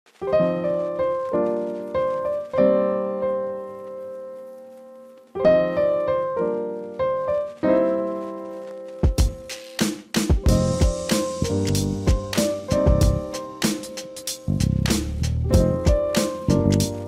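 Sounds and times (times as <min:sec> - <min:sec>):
gentle piano chords: 0:00.1 - 0:17.0.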